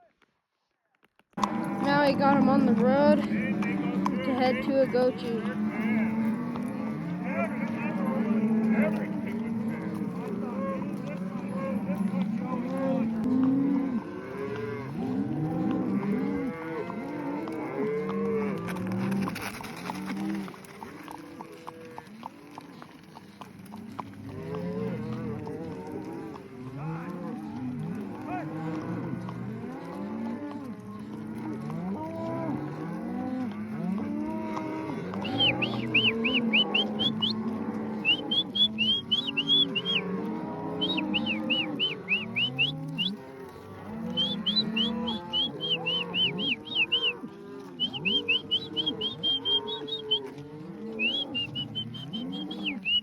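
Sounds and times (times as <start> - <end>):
cows mooing and bawling: 1.4 - 53.0.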